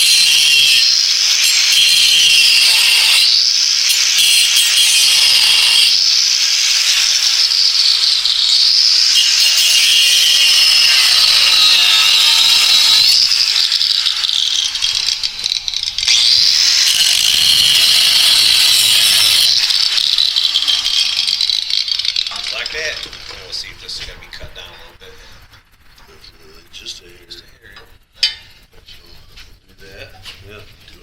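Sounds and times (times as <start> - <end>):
power saw cutting steel: 0.0 - 25.0.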